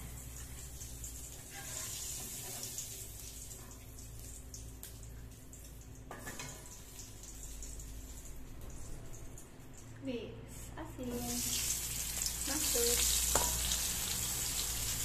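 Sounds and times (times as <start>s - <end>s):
hot oil sizzling in a wok: 0.0s - 9.0s, 11.0s - 15.0s.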